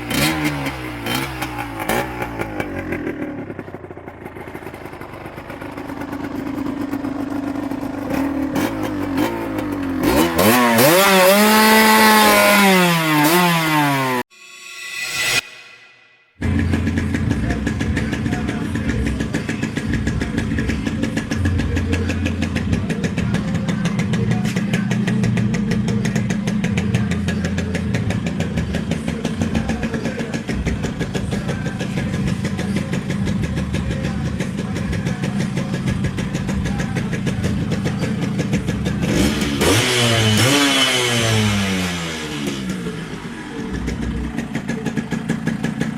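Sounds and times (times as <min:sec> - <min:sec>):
two-stroke motorcycle engine idling: 0:00.0 - 0:12.4, 0:16.4 - 0:45.9
motorcycle engine revving: 0:00.0 - 0:14.3, 0:16.3 - 0:45.9.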